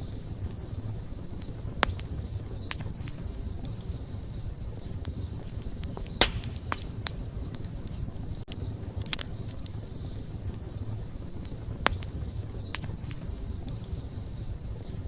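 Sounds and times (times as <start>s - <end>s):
fire pops and crackles: 0.0s - 15.0s
campfire flames rumbling: 0.1s - 15.0s.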